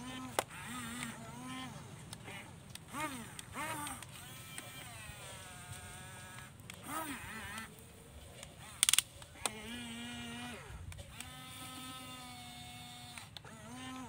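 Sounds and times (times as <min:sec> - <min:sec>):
small gear motors whining: 0:00.0 - 0:14.0.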